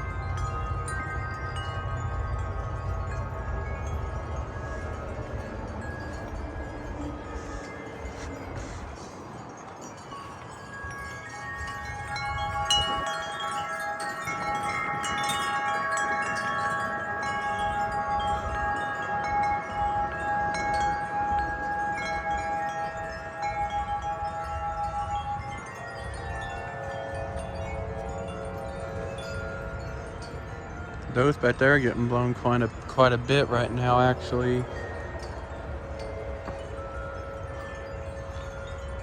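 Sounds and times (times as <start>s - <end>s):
wind chimes ringing: 0.0s - 39.0s
wind rumble on microphone: 0.0s - 39.0s.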